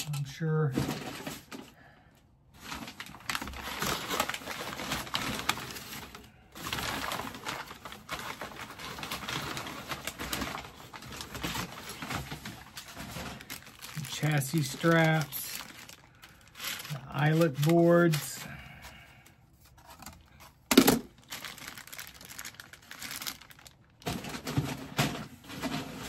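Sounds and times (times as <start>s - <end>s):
packing paper rustling: 2.5s - 26.0s.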